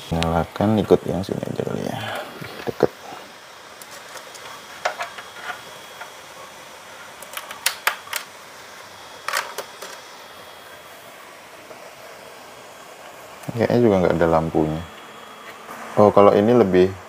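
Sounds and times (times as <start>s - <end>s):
cooling fan hiss: 0.0s - 17.0s.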